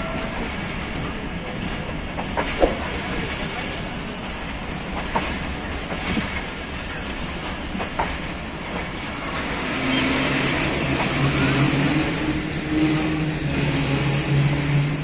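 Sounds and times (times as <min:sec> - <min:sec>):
train rolling slowly: 0:00.0 - 0:15.0.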